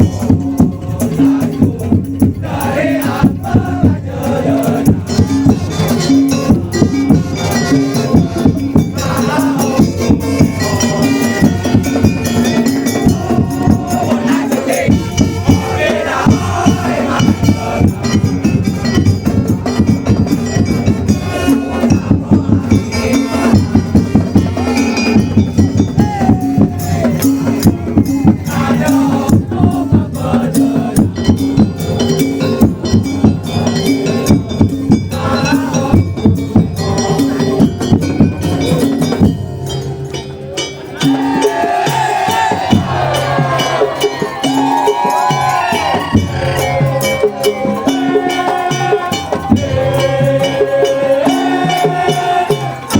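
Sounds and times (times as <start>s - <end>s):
drums and rattling percussion: 0.0s - 52.9s.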